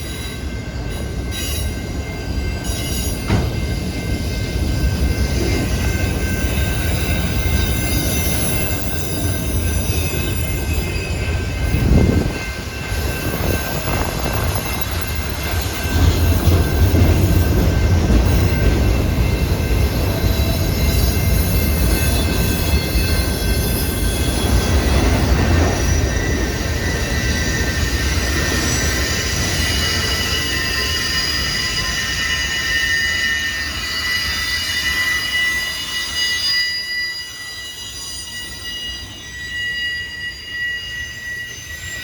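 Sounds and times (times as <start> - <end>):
train cars rumbling past: 0.0 - 42.0
wheels squealing on rails: 0.0 - 42.0.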